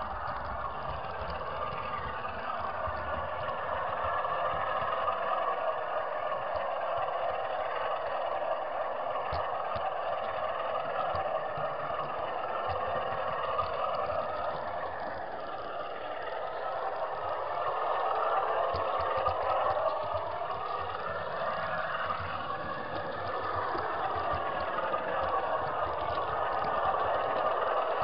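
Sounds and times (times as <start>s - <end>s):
sharp clicks: 0.0s - 5.8s, 9.2s - 28.0s
model train wheels and motor whirring: 0.0s - 28.0s.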